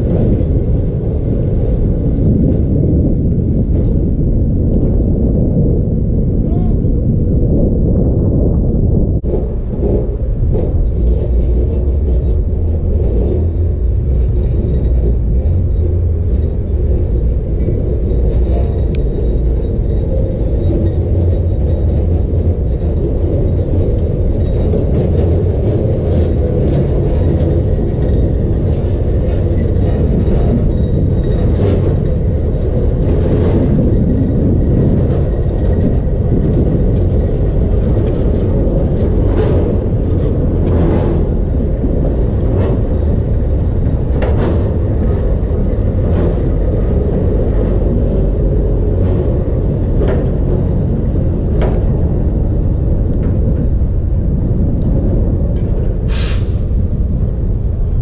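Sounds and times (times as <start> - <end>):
tram rolling over tracks: 0.0 - 58.0.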